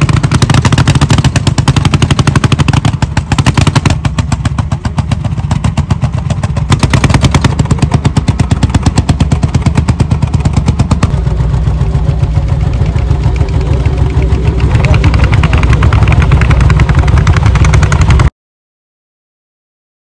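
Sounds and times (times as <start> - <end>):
tractor engine beating: 0.0 - 18.3.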